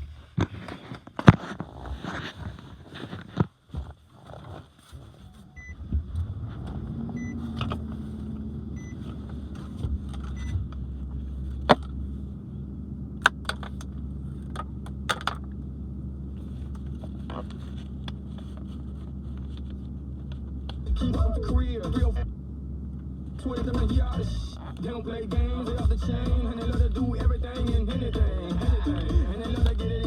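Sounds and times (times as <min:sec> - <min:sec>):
car engine starting and idling: 0:05.2 - 0:30.0.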